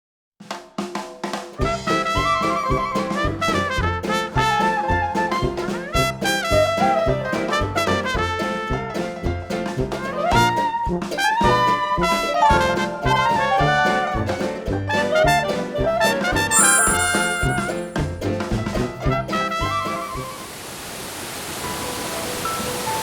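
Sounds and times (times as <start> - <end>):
instrumental music with steady beat: 0.9 - 20.0.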